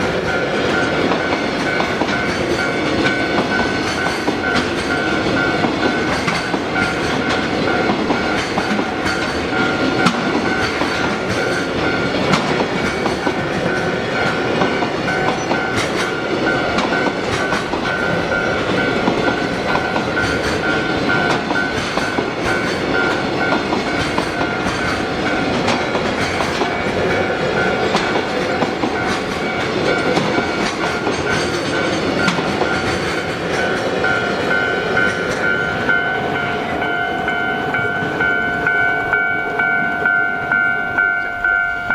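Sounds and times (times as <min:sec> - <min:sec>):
crossing warning bell: 0:00.0 - 0:41.9
train wheels clattering on rails: 0:00.0 - 0:41.9.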